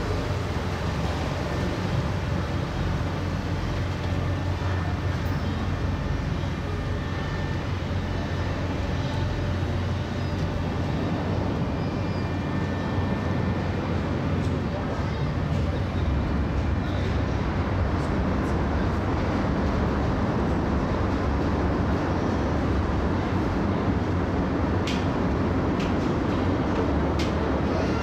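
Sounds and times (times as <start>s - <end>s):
even rush of noise: 0.0s - 27.7s
low engine drone: 0.0s - 28.0s.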